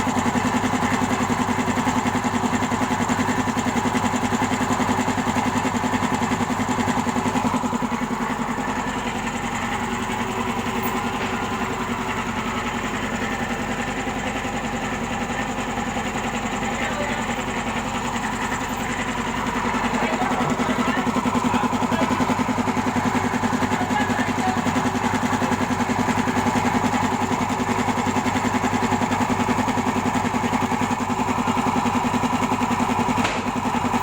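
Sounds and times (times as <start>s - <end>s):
air compressor motor humming: 0.0s - 34.0s.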